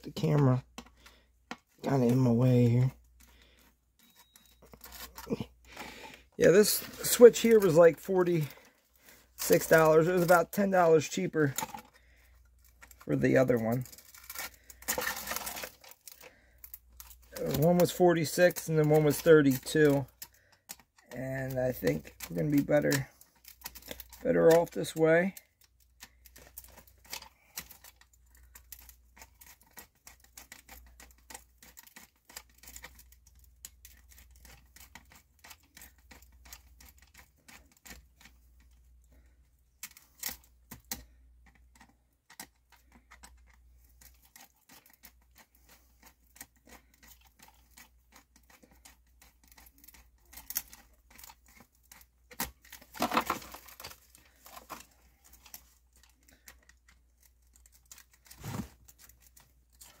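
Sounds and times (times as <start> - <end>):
small clicks scrapes and rustling: 0.0 - 60.0.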